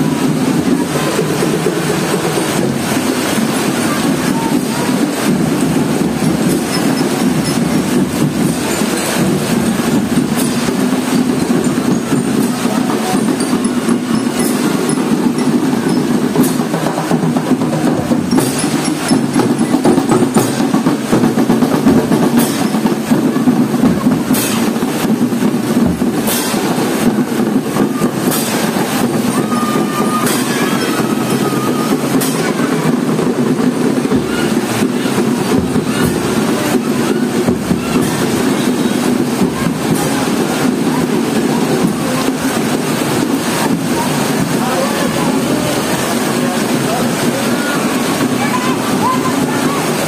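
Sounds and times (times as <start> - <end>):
heavy rain: 0.0 - 50.0
marching drums beating: 0.0 - 50.0.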